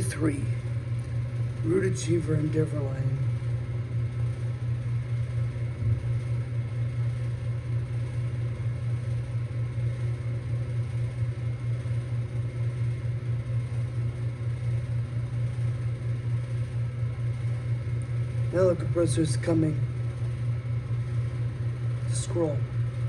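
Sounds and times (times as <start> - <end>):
compressor hum: 0.0 - 23.0.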